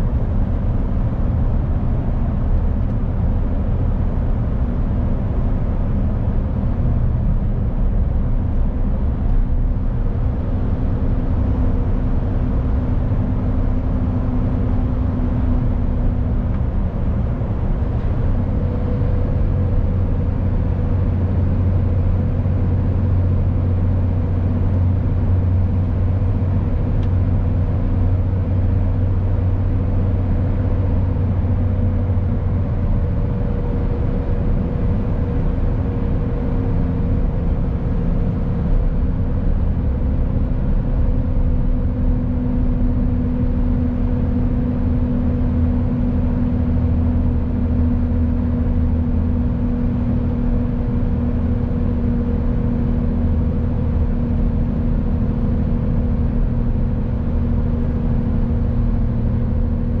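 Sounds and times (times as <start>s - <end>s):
road and tyre noise: 0.0s - 60.0s
truck engine drone: 0.0s - 60.0s.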